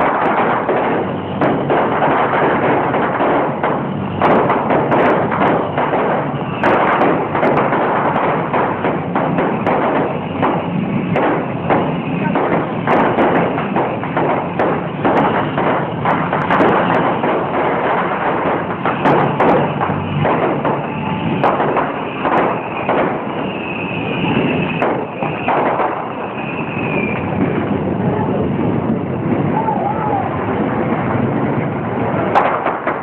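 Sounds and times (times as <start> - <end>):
high wavering firework whistles: 0.0 - 30.5
fireworks bangs and crackles: 0.0 - 33.0.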